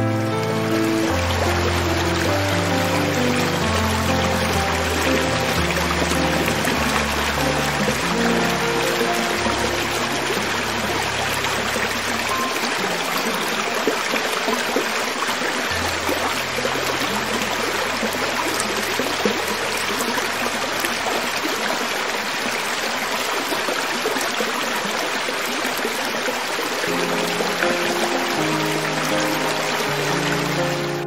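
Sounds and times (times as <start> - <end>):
soft background music: 0.0 - 21.9, 26.8 - 31.0
creek water flowing over rocks: 0.0 - 31.0.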